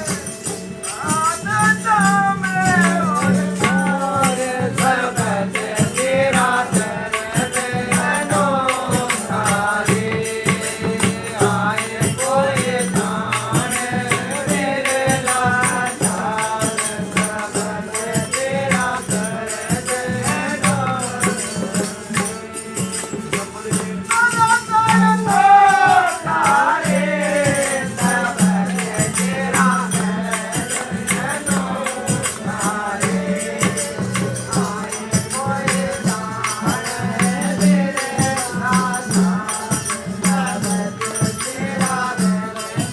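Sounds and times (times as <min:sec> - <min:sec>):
rattling percussion: 0:00.0 - 0:42.9.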